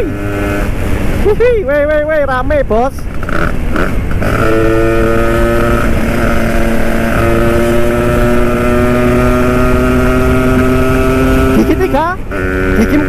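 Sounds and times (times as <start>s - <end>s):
scooter engine droning: 0.0s - 1.3s, 3.1s - 13.0s
wind rushing past microphone: 0.0s - 13.0s.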